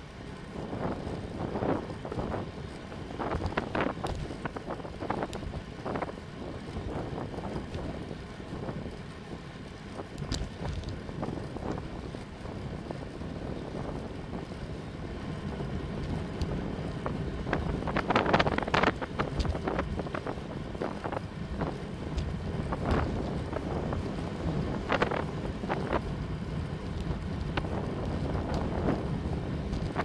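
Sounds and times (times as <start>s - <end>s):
tyres rumbling on road: 0.0s - 30.0s
wind buffeting microphone: 0.0s - 30.0s.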